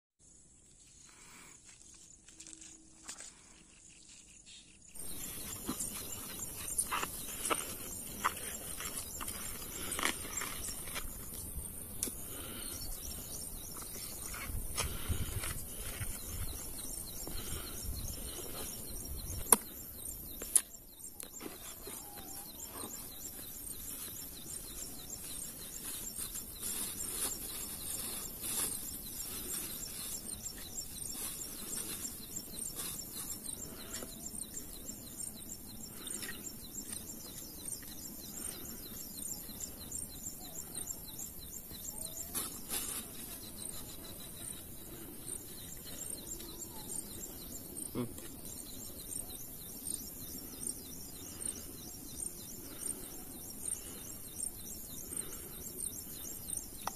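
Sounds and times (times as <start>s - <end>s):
insects chirping: 0.2s - 56.9s
bird calls: 1.8s - 56.9s.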